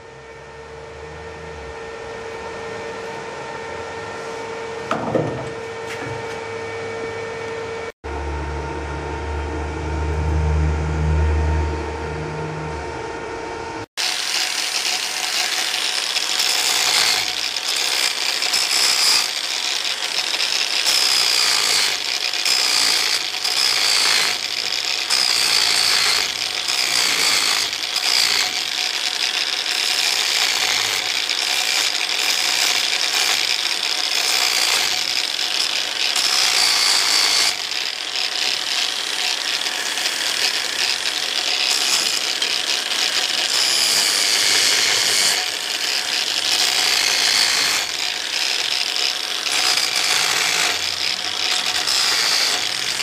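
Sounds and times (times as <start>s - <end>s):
angle grinder grinding metal: 0.0s - 53.0s.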